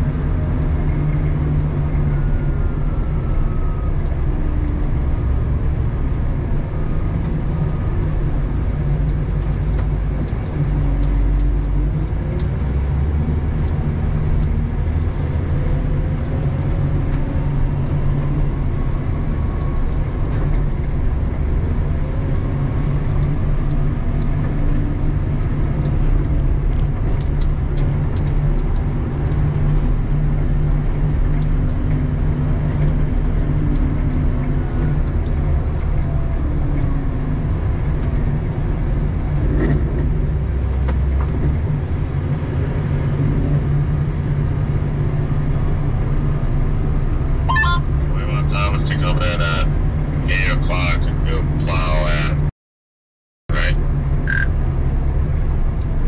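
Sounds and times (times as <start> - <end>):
diesel engine running: 0.0 - 52.5.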